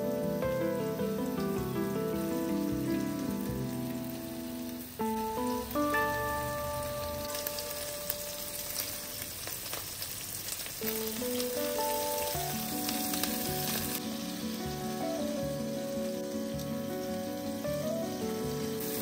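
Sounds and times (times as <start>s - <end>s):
soft background music: 0.0s - 9.4s, 10.8s - 19.0s
oil sizzling in a pan: 0.0s - 19.0s.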